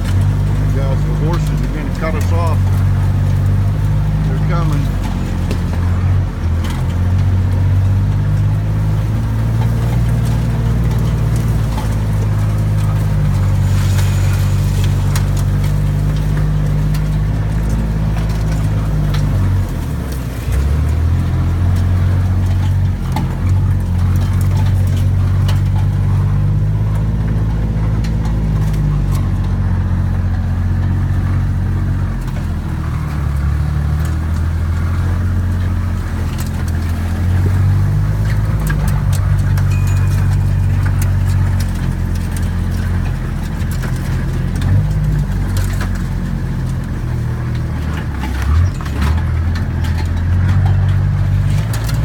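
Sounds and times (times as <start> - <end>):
vehicle engine droning: 0.0 - 52.0.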